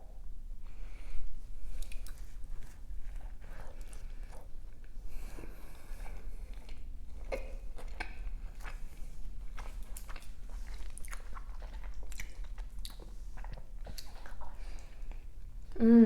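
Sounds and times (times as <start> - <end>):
chewing and biting: 1.7 - 15.0.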